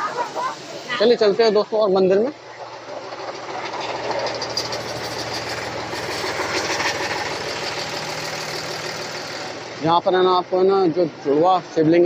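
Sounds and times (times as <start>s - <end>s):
outdoor hiss: 0.0s - 12.0s
engine humming: 1.6s - 12.0s.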